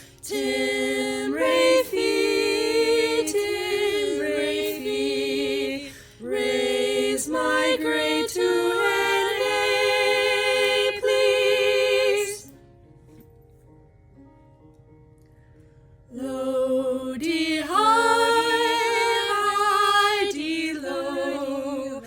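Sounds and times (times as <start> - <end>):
group singing a cappella: 0.0 - 12.5, 16.2 - 22.0.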